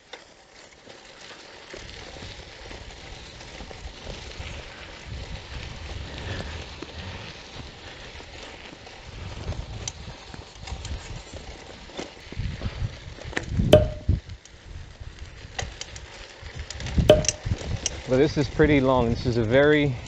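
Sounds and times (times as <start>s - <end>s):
bicycle rattling on dirt road: 0.0s - 20.0s.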